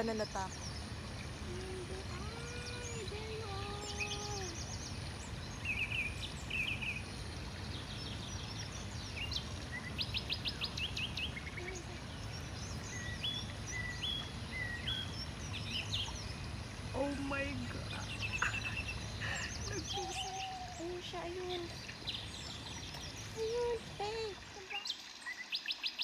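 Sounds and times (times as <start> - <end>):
birds calling and singing: 0.0 - 26.0.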